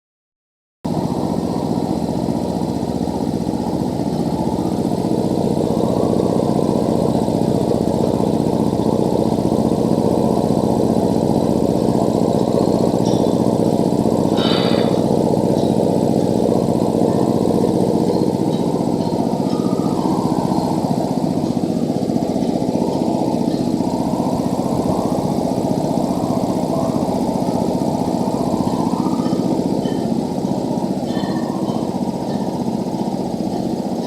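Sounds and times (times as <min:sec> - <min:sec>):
air compressor humming: 0:00.9 - 0:34.0.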